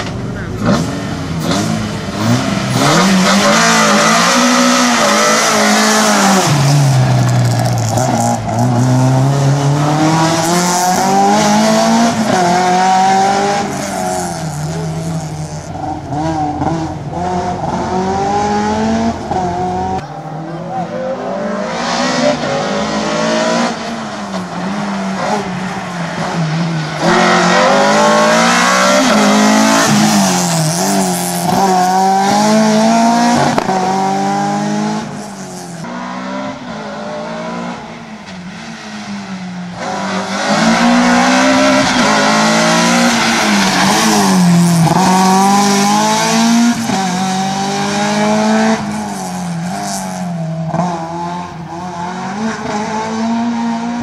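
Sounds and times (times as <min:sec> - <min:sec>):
car engine revving hard: 0:00.6 - 0:38.0, 0:39.7 - 0:54.0.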